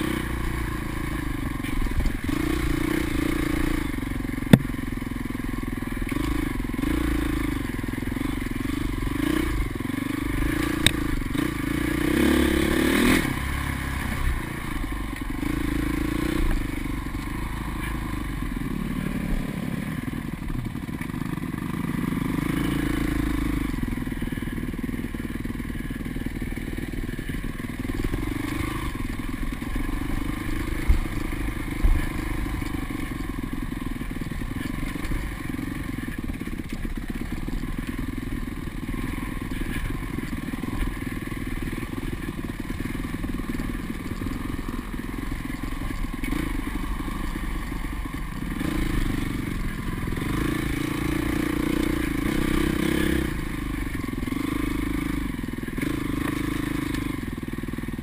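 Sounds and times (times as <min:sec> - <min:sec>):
dirt bike engine revving: 0:00.0 - 0:04.7, 0:05.8 - 0:58.0.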